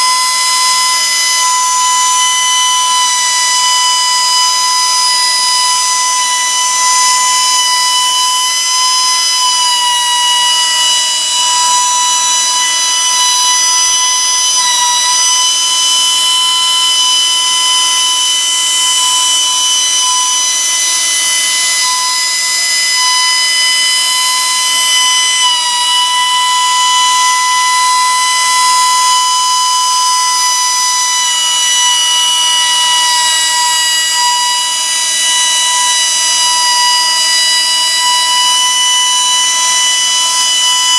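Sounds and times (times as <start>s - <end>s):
valve grinder motor whining: 0.0s - 40.9s.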